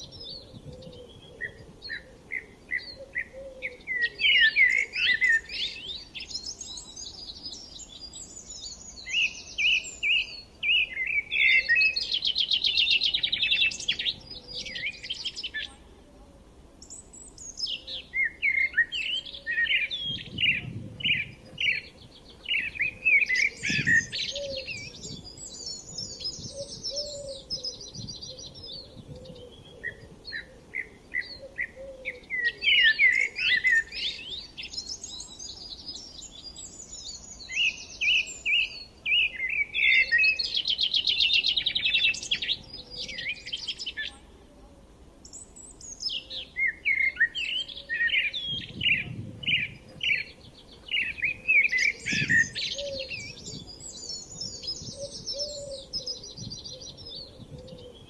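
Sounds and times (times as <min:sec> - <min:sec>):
songbirds chirping and singing: 0:00.0 - 0:16.0, 0:16.8 - 0:58.0.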